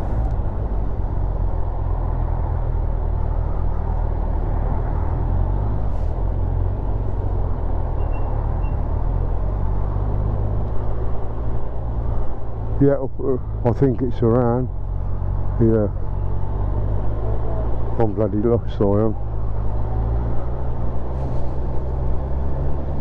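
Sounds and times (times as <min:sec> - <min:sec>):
wind and road rush: 0:00.0 - 0:23.0.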